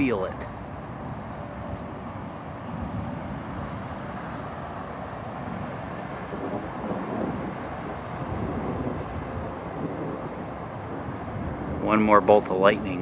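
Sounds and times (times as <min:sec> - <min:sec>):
distant thunder rumble: 0:00.0 - 0:13.0.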